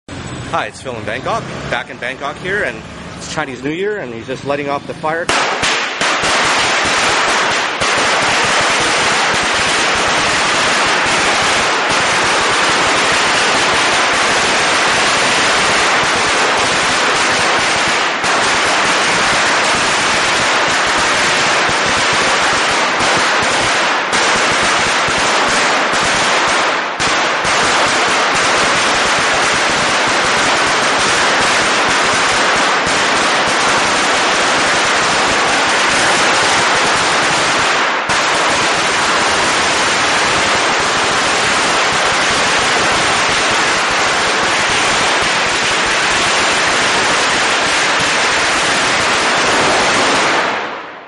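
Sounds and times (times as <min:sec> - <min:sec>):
firecrackers crackling: 0:00.4 - 0:51.0.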